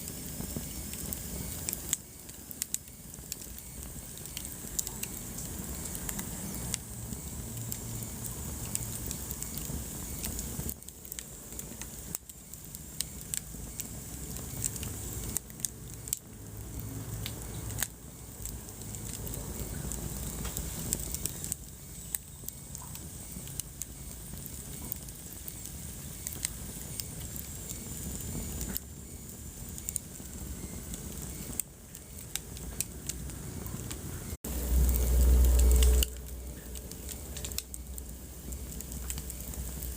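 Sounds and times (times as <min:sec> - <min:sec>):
logs crackling and popping: 0:00.0 - 0:39.9
steady rush of flame: 0:00.0 - 0:39.9.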